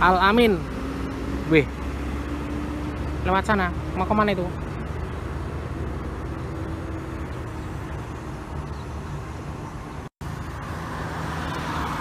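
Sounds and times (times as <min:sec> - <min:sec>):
diesel bus engines rumbling: 0:00.0 - 0:12.0.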